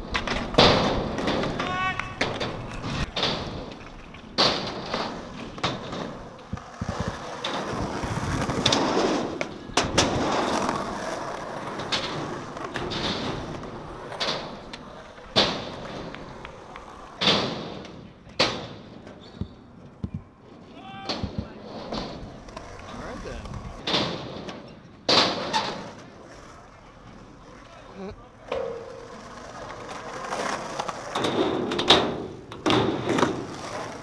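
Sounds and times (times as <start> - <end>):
skateboard popping and landing: 0.0 - 20.4, 21.0 - 27.8, 28.4 - 34.0
skateboard wheels rolling on concrete: 0.0 - 34.0.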